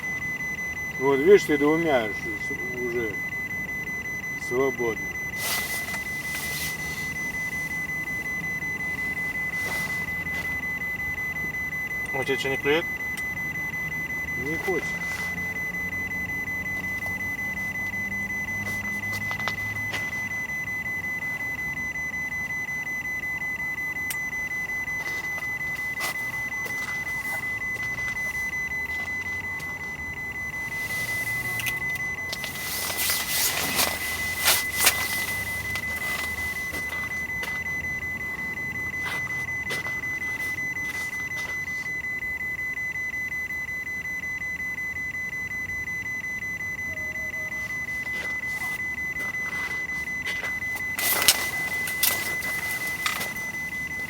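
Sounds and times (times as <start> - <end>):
high-pitched electronic tone: 0.0 - 54.0.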